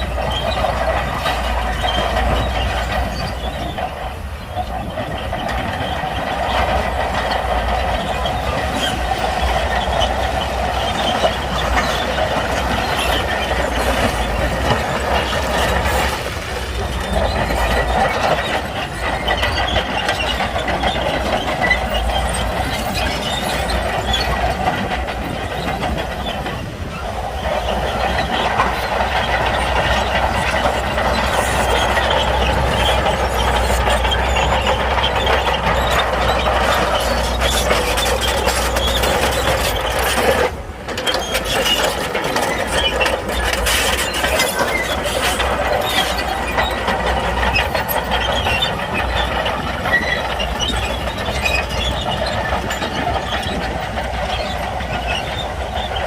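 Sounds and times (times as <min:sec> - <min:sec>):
diesel engine running: 0:00.0 - 0:56.0
steel tracks clattering: 0:00.0 - 0:56.0.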